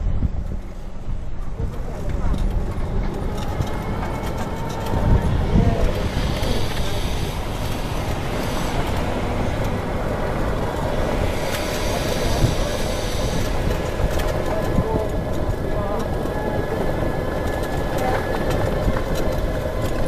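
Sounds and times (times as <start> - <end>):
vehicle rolling over cobblestones: 0.0 - 20.0.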